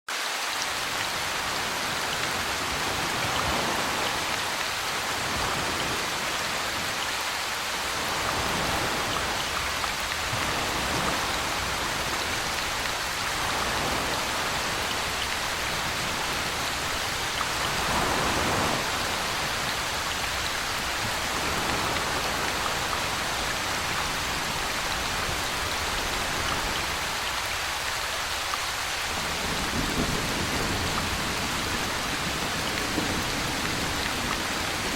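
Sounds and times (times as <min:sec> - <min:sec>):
steady rainfall: 0:00.1 - 0:34.9.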